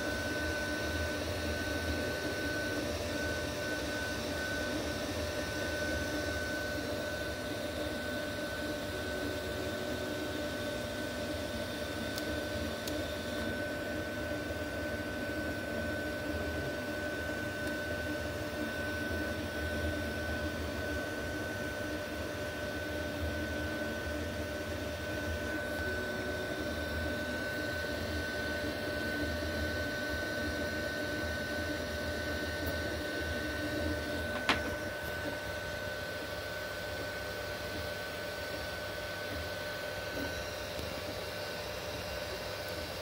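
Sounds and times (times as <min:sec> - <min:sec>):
printer fans and motors whirring: 0:00.0 - 0:43.0.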